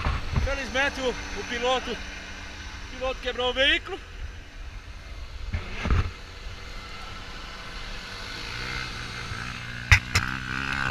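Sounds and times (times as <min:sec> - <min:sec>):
buggy engine rumbling: 0:00.0 - 0:10.9.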